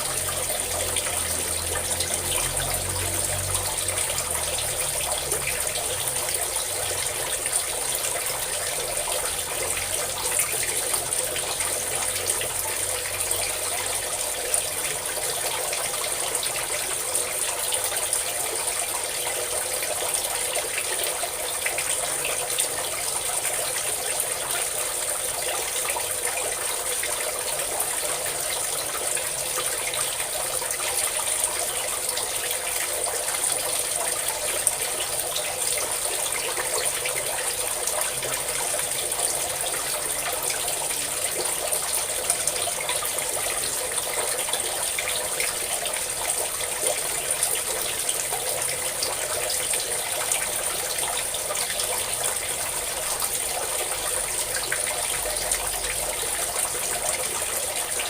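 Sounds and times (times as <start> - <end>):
water pouring and splashing: 0.0 - 58.0.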